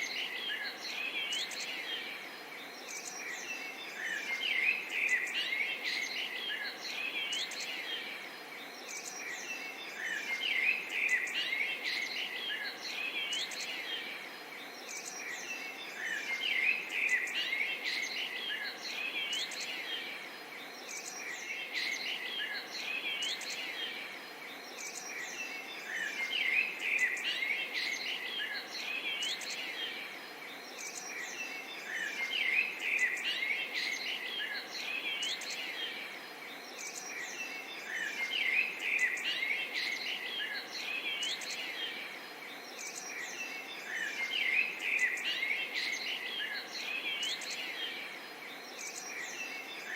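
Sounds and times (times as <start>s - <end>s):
faint steady hiss: 0.0s - 49.9s
small birds chirping: 0.0s - 49.9s.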